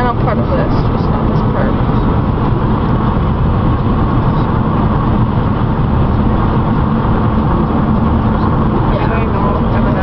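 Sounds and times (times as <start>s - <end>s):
car cabin road and wind rumble: 0.0s - 10.0s.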